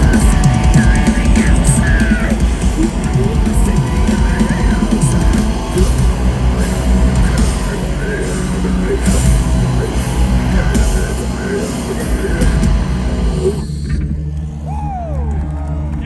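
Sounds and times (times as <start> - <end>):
yelled vocals: 0.0 - 13.8
pounding drums: 0.0 - 15.6
distorted guitars: 0.0 - 16.0.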